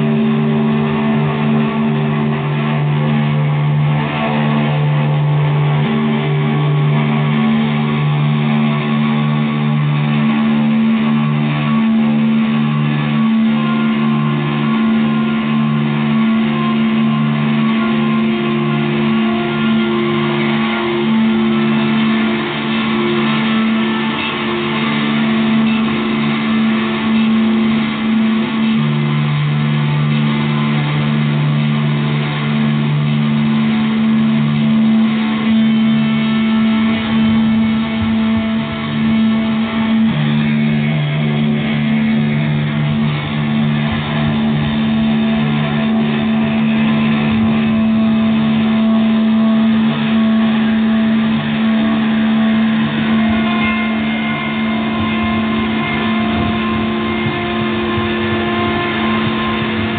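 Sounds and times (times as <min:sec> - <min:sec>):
low pulsing tone: 0:00.0 - 0:59.9
sustained droning tone: 0:00.0 - 0:59.9.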